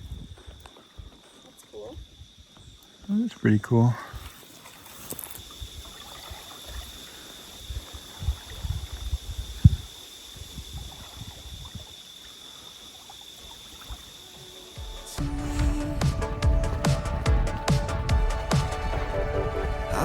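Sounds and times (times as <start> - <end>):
small waves lapping on shore: 3.2 - 20.0.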